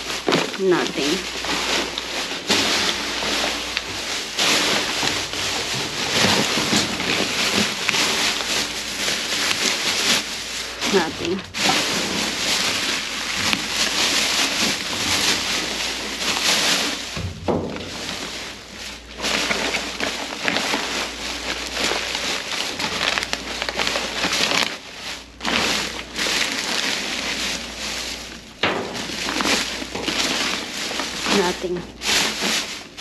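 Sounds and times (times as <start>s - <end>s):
plastic bags and paper rustling: 0.0s - 33.0s.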